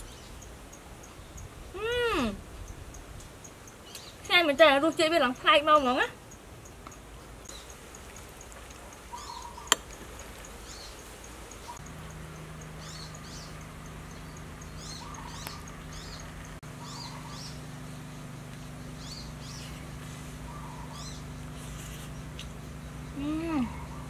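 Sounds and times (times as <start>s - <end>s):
small birds chirping: 0.0s - 24.0s
steady low hum: 0.0s - 24.0s.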